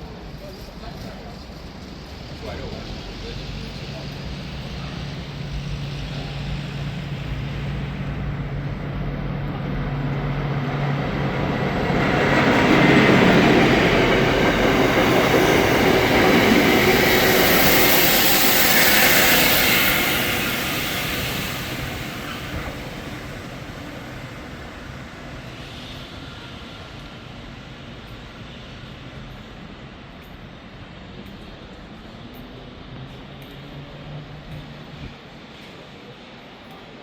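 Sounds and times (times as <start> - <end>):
rail grinding train engine hum: 0.0 - 37.0.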